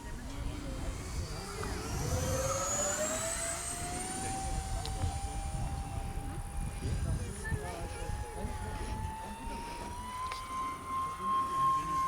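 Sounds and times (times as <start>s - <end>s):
electric ducted fans whining: 0.0s - 12.0s.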